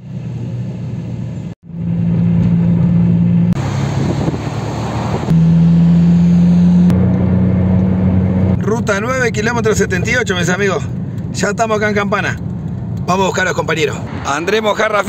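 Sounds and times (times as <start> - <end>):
car engine and road drone: 0.0 - 15.0
highway traffic noise: 0.0 - 15.0.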